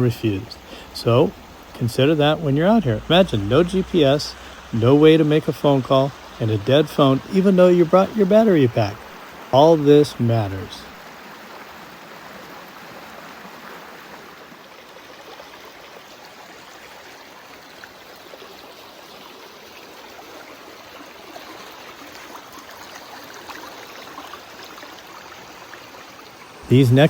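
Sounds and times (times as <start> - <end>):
creek water running over rocks: 0.0 - 27.0.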